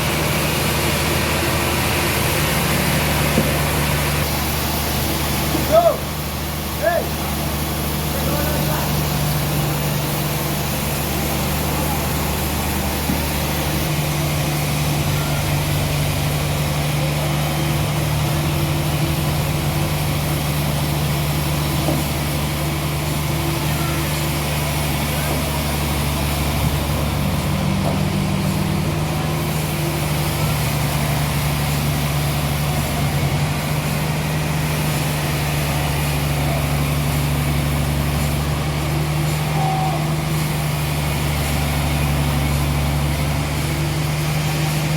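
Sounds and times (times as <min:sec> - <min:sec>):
sawmill machinery engine running: 0:00.0 - 0:44.9.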